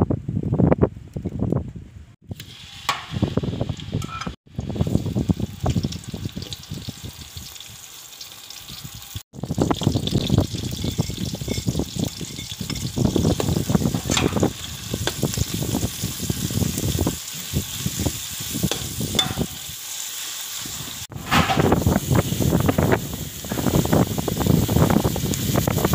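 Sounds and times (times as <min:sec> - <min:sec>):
oil sizzling: 0:02.3 - 0:25.9.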